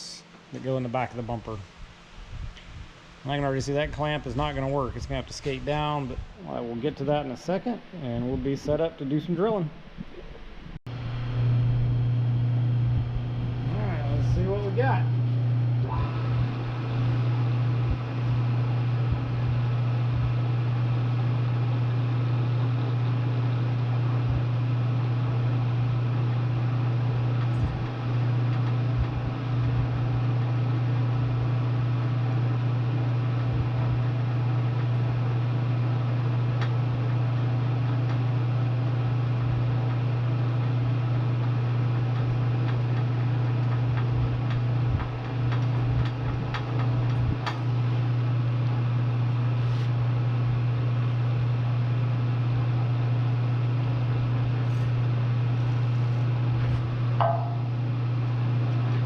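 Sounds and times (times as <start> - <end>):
milling machine humming: 0.0 - 59.0.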